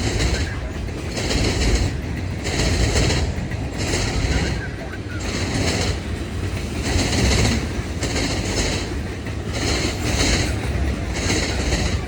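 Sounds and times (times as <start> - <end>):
freight train rumble: 0.0 - 12.0
wheels clattering over rail: 0.0 - 12.0.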